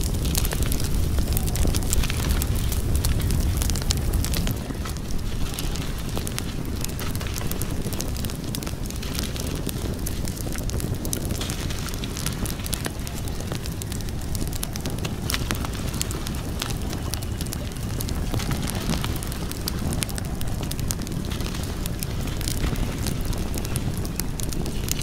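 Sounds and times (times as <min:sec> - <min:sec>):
steady low rumble: 0:00.0 - 0:25.0
wood fire crackling and popping: 0:00.0 - 0:25.0.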